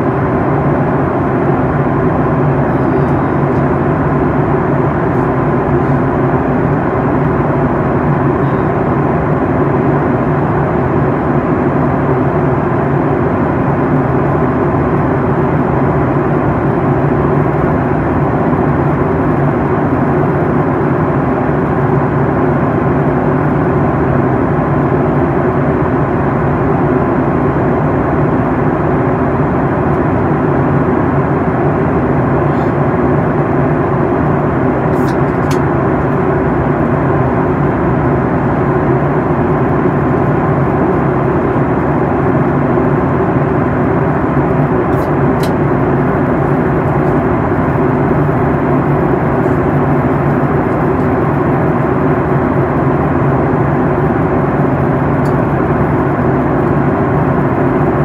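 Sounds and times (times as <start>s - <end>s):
constant low hum: 0.0s - 58.0s
jet engine and airflow rush: 0.0s - 58.0s.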